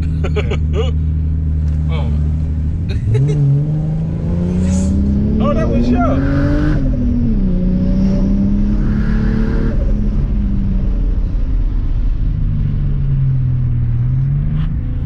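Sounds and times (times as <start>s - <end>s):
turbocharged engine from inside car: 0.0s - 15.0s.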